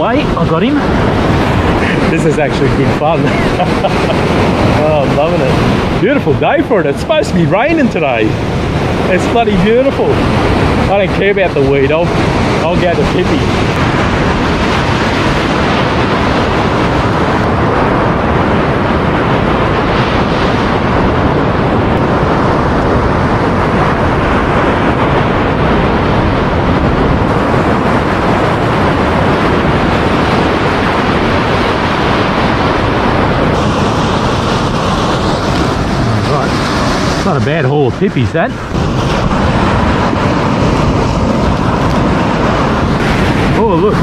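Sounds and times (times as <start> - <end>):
surf washing on a beach: 0.0 - 44.0
wind buffeting microphone: 0.0 - 44.0.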